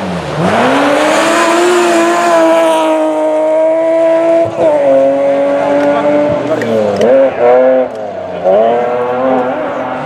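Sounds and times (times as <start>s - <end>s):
rally car engine at full throttle: 0.0s - 10.0s.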